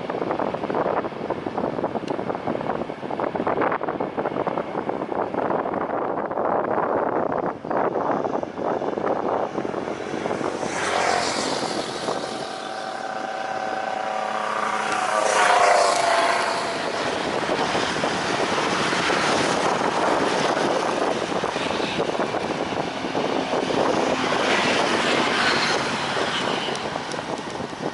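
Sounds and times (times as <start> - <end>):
jet airliner engines passing: 0.0 - 27.9.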